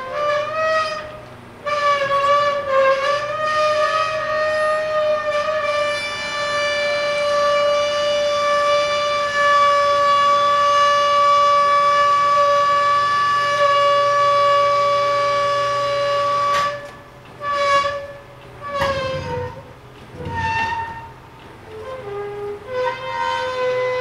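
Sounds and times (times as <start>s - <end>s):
steel wheels squealing on rails: 0.0s - 24.0s.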